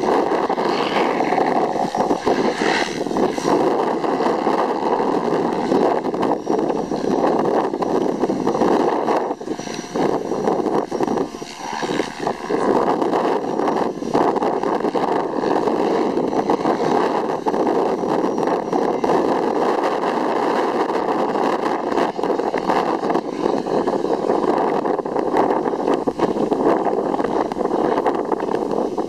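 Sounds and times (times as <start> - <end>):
helicopter rotor hum: 0.0 - 29.0
high motor whine: 0.0 - 29.0.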